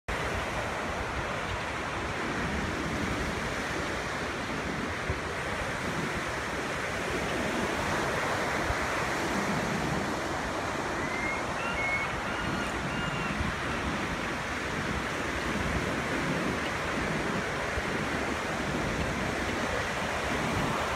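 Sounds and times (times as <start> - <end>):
waves breaking on beach: 0.1 - 20.9.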